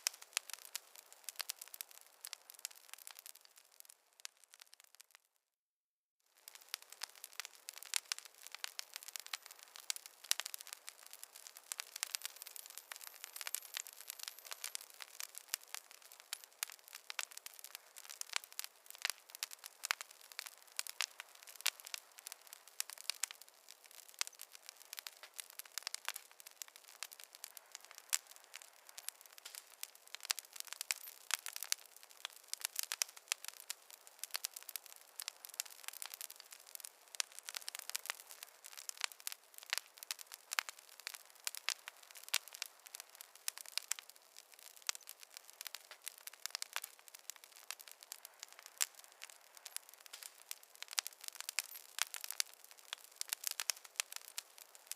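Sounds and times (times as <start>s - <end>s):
wood fire crackling: 0.0s - 5.3s, 6.3s - 54.9s.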